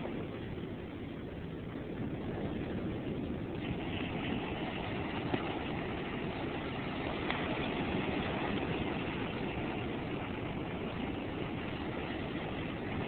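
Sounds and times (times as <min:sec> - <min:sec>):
wind on microphone: 0:00.0 - 0:13.0
ocean surf rushing: 0:02.2 - 0:13.0.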